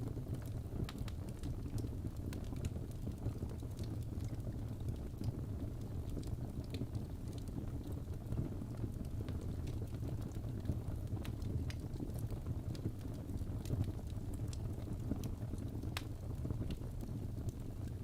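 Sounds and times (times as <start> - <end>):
burning logs crackling: 0.0 - 18.0
fire rumbling in fireplace: 0.0 - 18.0.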